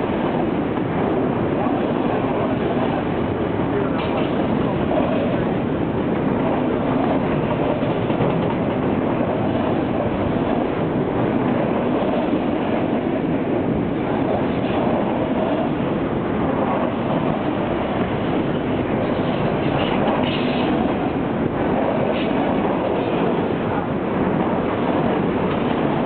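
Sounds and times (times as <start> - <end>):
steel train wheels on rails: 0.0 - 26.0.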